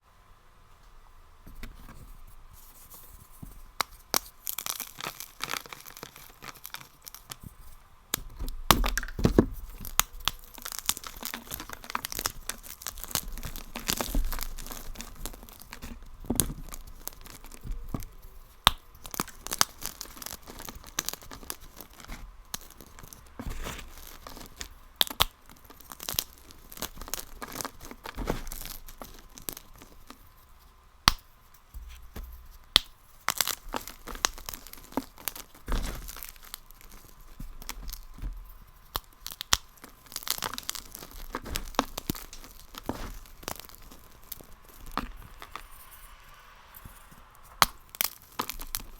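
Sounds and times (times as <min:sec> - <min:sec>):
brittle material crunching: 0:01.5 - 0:46.6, 0:47.2 - 0:48.9.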